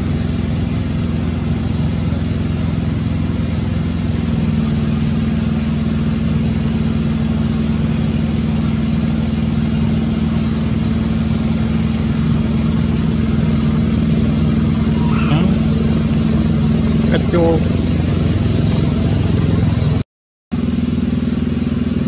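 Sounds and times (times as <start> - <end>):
low mechanical hum: 0.0 - 20.0, 20.6 - 22.0.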